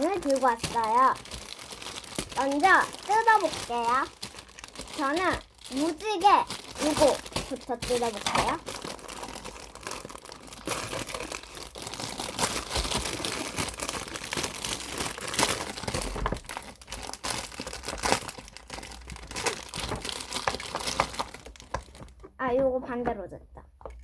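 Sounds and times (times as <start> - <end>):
plastic packaging crinkling: 0.0 - 22.4.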